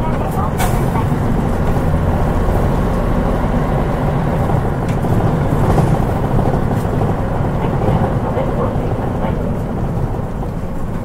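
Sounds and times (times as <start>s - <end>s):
bus diesel engine: 0.0s - 11.0s
road noise: 0.0s - 11.0s.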